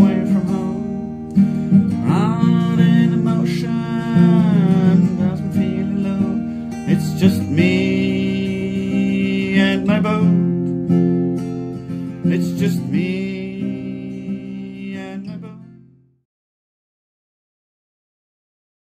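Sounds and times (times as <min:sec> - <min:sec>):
acoustic guitar strumming music: 0:00.0 - 0:16.2.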